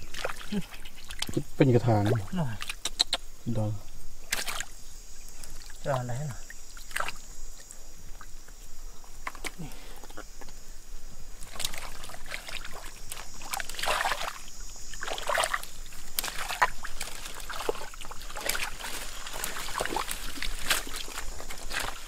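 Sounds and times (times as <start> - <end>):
muddy water sloshing and splashing: 0.0 - 3.0, 4.2 - 10.1, 11.2 - 22.0.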